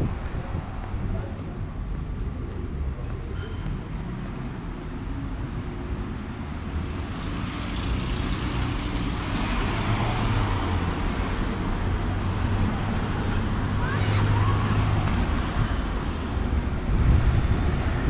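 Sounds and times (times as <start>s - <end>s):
cars driving through intersection: 0.0s - 18.0s.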